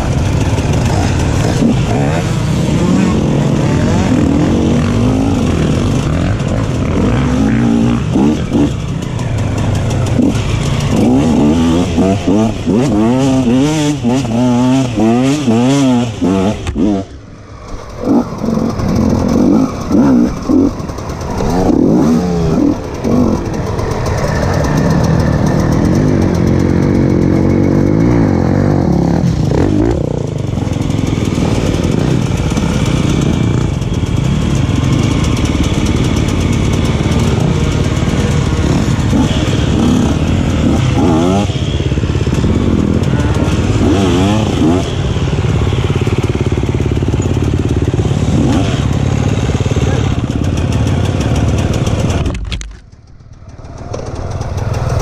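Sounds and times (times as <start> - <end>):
dirt bike engine revving: 0.0 - 52.4.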